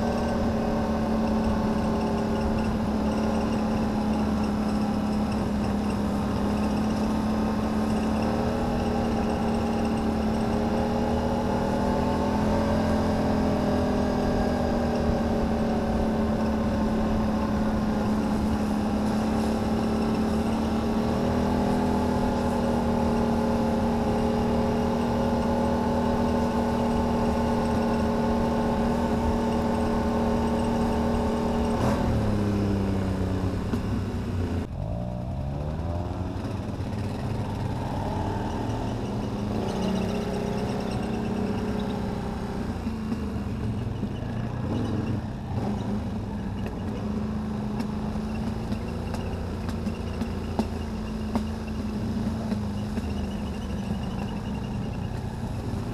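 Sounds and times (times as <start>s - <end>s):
quad bike engine droning: 0.0s - 55.9s.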